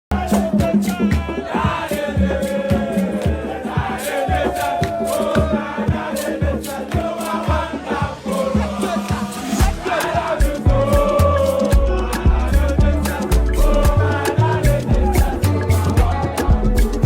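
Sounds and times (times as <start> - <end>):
group singing over drum beat: 0.1 - 17.0.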